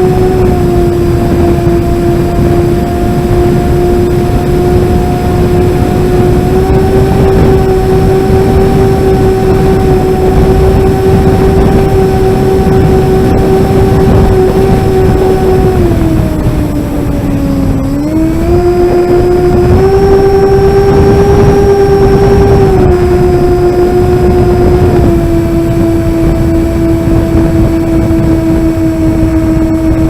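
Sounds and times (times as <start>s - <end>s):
model plane motor droning: 0.0s - 30.0s
wind buffeting microphone: 0.0s - 30.0s.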